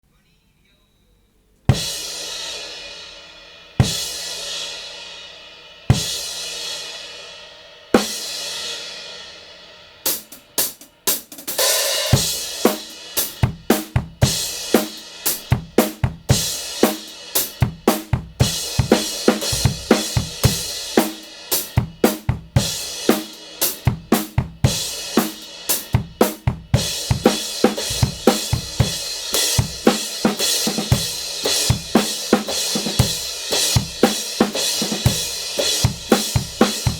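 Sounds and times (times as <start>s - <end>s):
drum kit groove: 1.7s - 36.9s.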